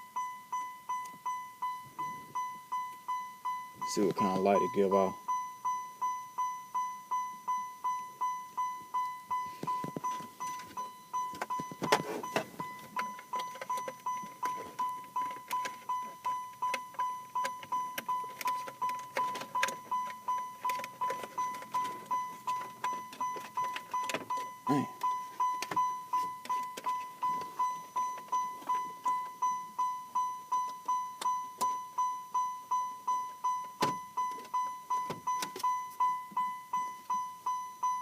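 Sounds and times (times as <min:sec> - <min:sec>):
car warning chime dinging: 0:00.0 - 0:38.0.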